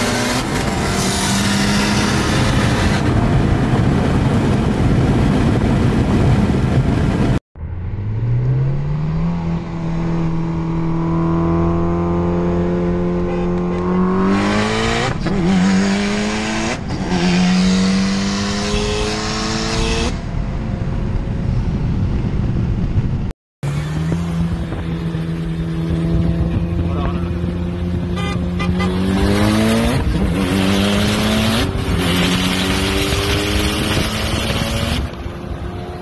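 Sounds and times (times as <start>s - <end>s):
car engine revving at full throttle: 0.0s - 36.0s.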